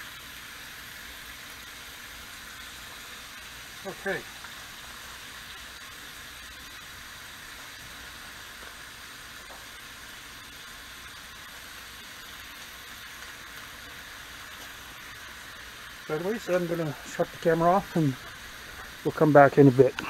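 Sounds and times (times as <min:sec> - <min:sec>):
bacon sizzling on a griddle: 0:00.0 - 0:20.0.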